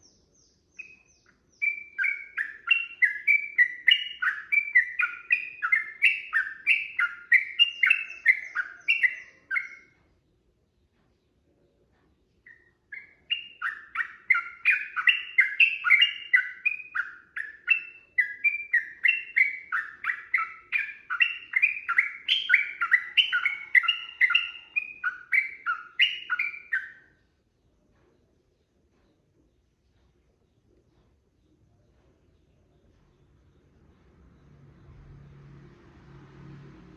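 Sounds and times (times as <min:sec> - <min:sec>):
bulbul chirping song: 0:00.0 - 0:11.4, 0:12.2 - 0:35.3.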